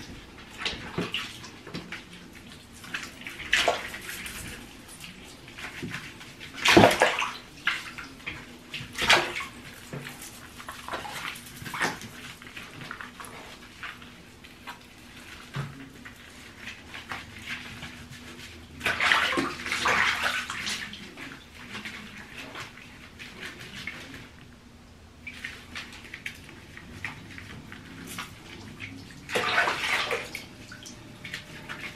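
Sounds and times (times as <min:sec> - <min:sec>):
water splashing in a bathtub: 0:00.0 - 0:31.9.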